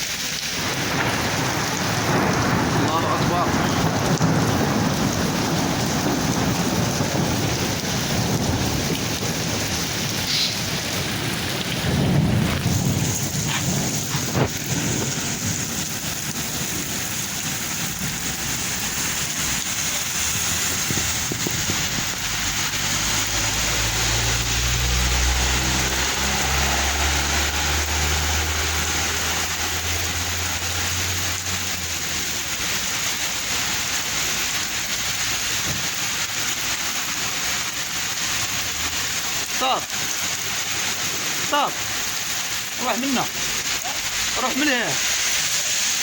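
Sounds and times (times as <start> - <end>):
rain falling: 0.0 - 46.0.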